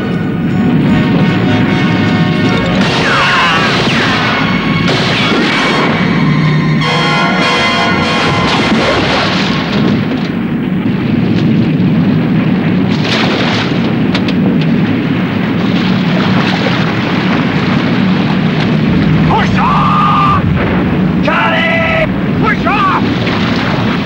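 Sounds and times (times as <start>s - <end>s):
low rumble of explosion and fire: 0.0s - 24.0s.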